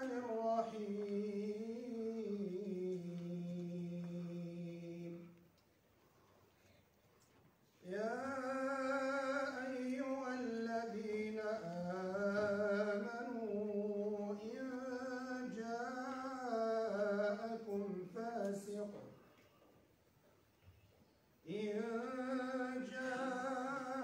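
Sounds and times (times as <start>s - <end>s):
man chanting into a microphone: 0.0s - 5.4s, 7.8s - 19.3s, 21.4s - 24.0s.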